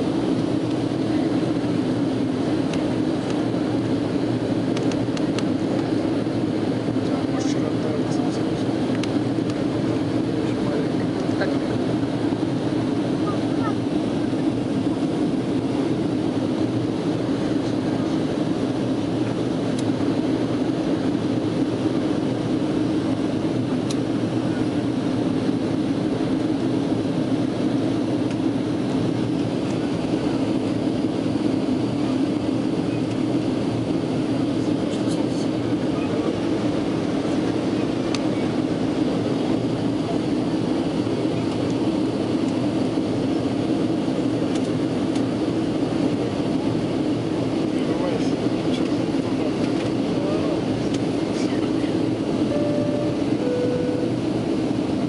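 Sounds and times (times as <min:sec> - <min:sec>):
airliner cabin engine drone: 0:00.0 - 0:55.0.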